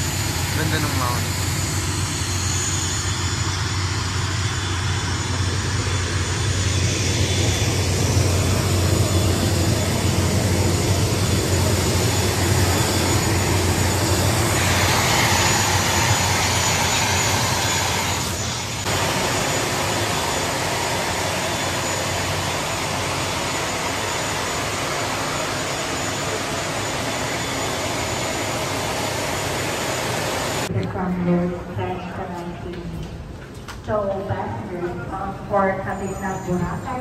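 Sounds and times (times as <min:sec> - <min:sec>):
aircraft engine running: 0:00.0 - 0:37.0.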